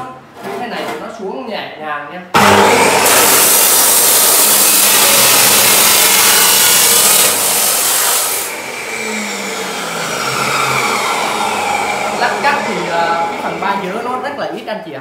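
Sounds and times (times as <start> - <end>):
cut-off saw grinding steel: 2.4 - 14.4
saw whining running free: 2.4 - 14.4.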